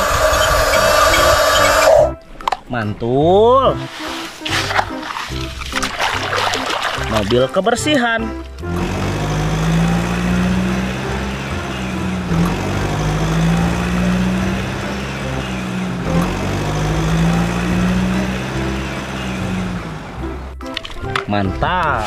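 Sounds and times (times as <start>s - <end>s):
truck engine humming: 0.0s - 2.6s, 3.7s - 22.0s.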